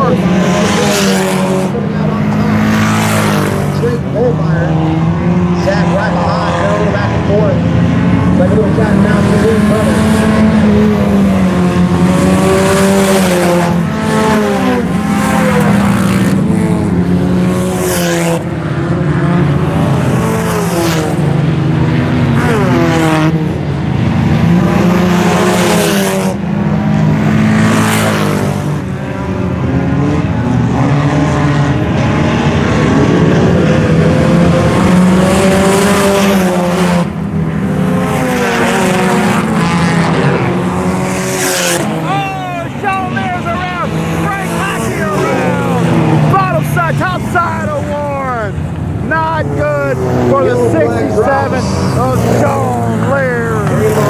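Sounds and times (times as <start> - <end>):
race car engines revving: 0.0 - 54.0
race cars passing close: 0.0 - 54.0.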